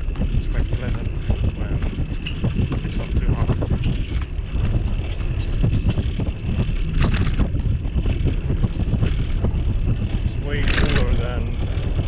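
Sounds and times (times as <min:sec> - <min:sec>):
wind buffeting microphone: 0:00.0 - 0:12.0
bike rattling clicks: 0:00.1 - 0:12.0.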